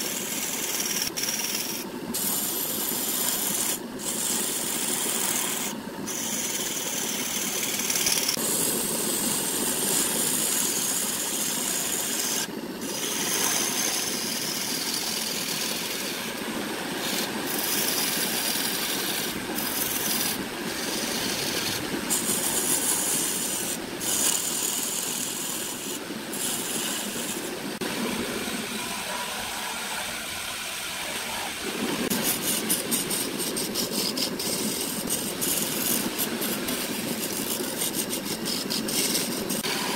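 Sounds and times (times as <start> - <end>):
wood lathe scraping hiss: 0.0 - 39.9.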